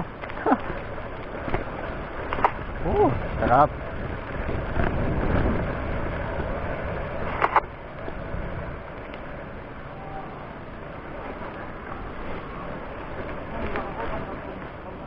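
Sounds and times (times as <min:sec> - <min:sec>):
bicycle road noise: 0:00.0 - 0:15.0
wind rushing over microphone: 0:01.4 - 0:14.4.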